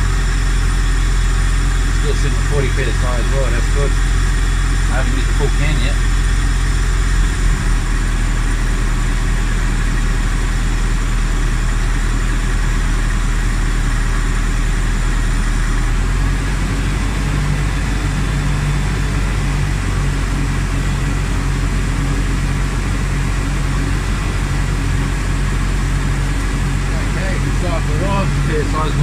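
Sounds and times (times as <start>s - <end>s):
car engine idling: 0.0s - 29.0s
steady low tone: 0.0s - 29.0s.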